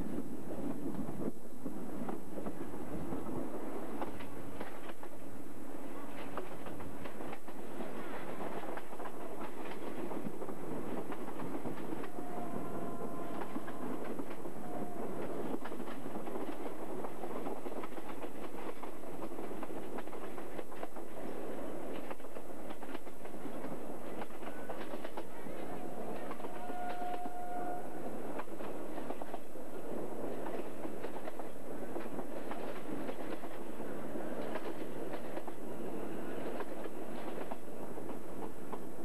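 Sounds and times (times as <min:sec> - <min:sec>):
train wheels rumbling on rails: 0:00.0 - 0:39.0
rail joints clicking: 0:03.9 - 0:05.2, 0:06.1 - 0:39.0.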